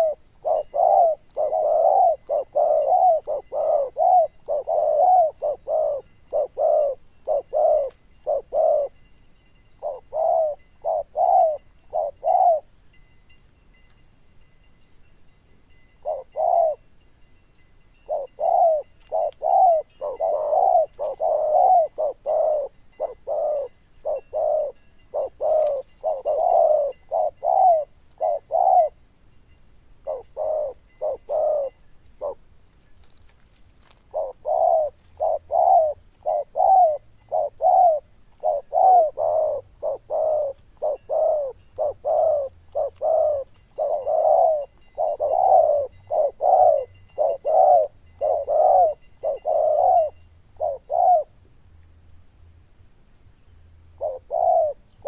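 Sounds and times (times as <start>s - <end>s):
dove cooing: 0.0s - 9.0s, 9.8s - 12.8s, 16.0s - 16.9s, 18.0s - 29.0s, 30.0s - 33.2s, 33.8s - 51.4s, 54.0s - 55.0s.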